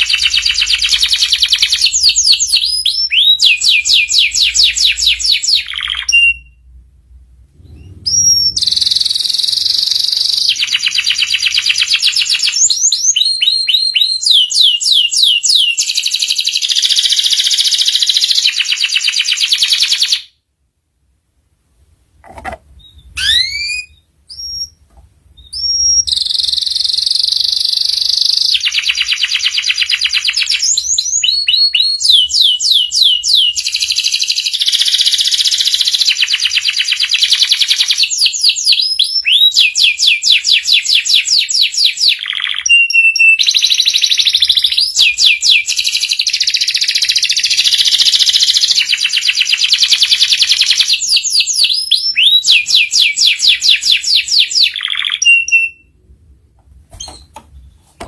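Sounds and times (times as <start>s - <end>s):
canary singing trills: 0.0s - 6.7s, 7.6s - 20.3s, 22.8s - 56.0s.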